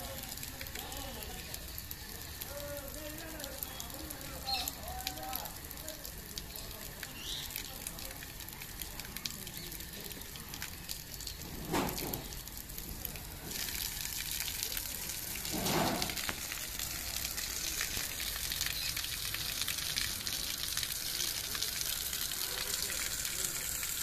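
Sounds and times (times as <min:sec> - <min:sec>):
low rushes of water: 0:00.0 - 0:24.0
water spraying from a tap: 0:00.0 - 0:24.0.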